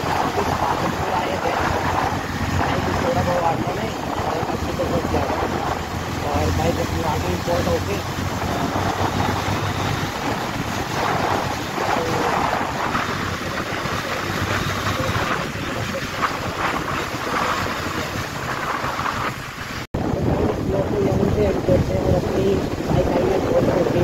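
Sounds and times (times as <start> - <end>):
motorcycle engine cruising: 0.0 - 24.0
wind rushing over microphone: 0.0 - 24.0.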